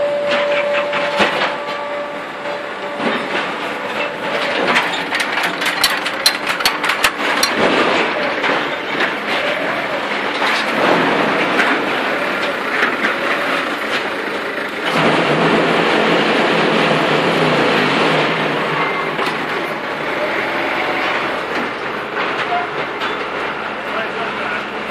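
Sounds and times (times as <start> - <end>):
heavy machinery running: 0.0 - 24.9.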